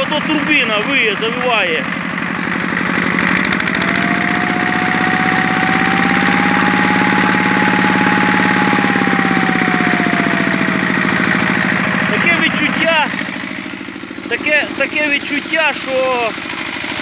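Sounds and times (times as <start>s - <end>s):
engine running at raised revs: 0.0s - 17.0s.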